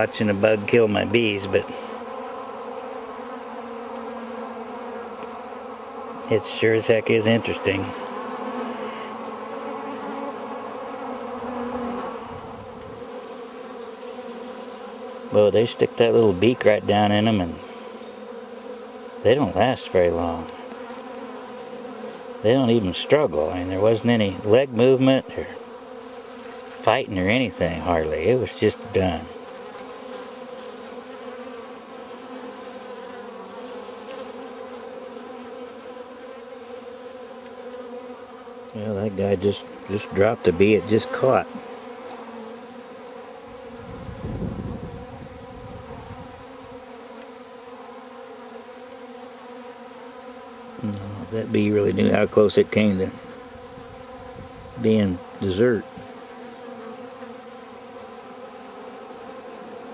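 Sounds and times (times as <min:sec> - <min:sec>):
bees buzzing: 0:00.0 - 0:59.9.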